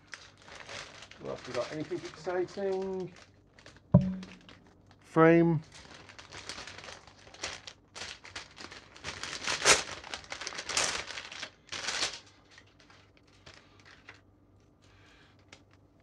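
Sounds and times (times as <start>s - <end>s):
plastic bag crinkling: 0.0s - 4.5s, 5.7s - 14.2s.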